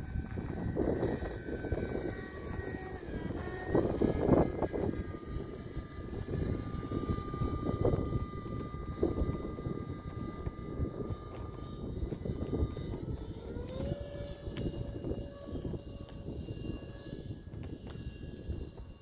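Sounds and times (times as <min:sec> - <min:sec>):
model jet motor whining: 0:00.0 - 0:19.0.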